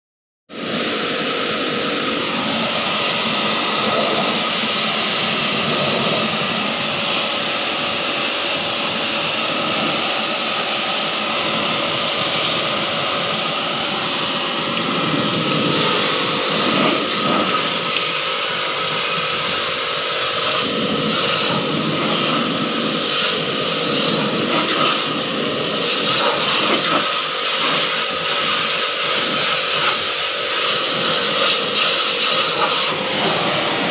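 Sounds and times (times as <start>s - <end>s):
pressure washer jet hissing: 0.5s - 33.9s
machine hum: 0.6s - 33.9s.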